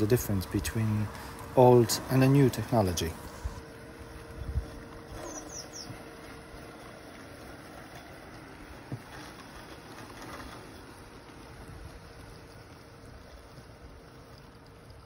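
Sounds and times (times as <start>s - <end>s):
outdoor hiss: 0.0s - 15.0s
robotic lawn mowers humming: 0.0s - 15.0s.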